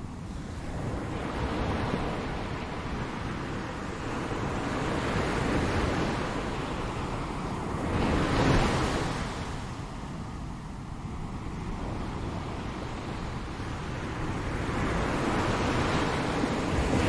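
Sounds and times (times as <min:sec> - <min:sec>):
ocean waves breaking: 0:00.2 - 0:17.0.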